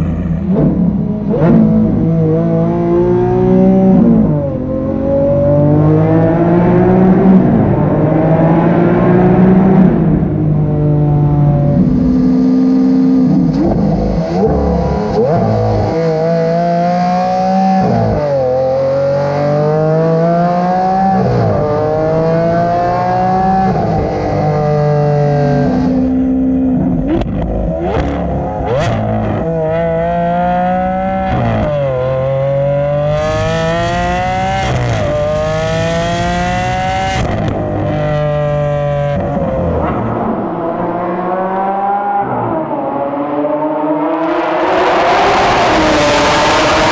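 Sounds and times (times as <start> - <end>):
sports car engine accelerating: 0.0 - 46.9.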